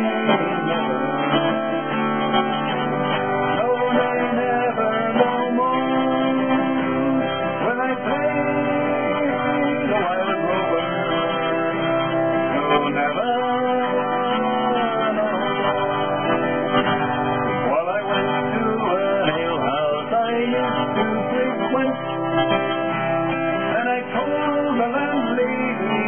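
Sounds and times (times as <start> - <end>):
acoustic guitar strumming: 0.0 - 26.0
man singing folk song: 0.0 - 26.0.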